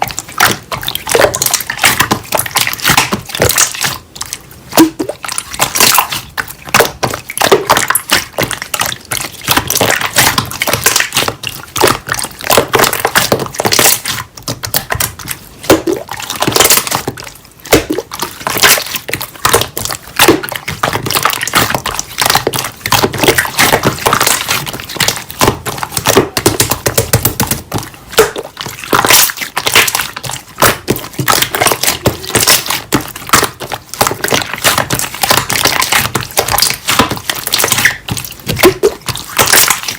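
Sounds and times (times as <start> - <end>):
slime squishing wet clicks: 0.0 - 39.9.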